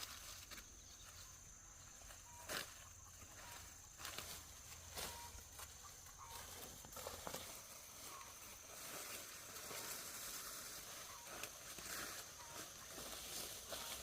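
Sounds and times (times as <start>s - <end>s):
faint footsteps: 0.0s - 14.0s
high insect drone: 0.0s - 14.0s
rustling: 2.0s - 14.0s.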